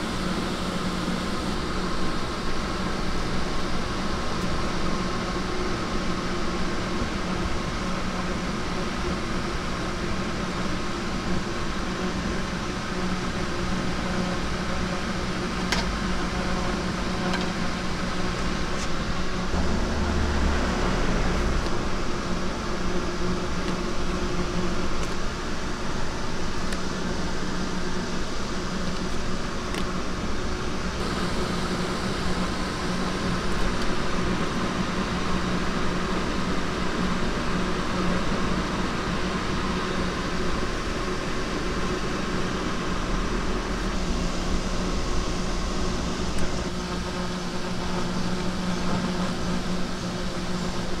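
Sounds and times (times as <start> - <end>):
cotton candy machine humming: 0.0 - 51.0.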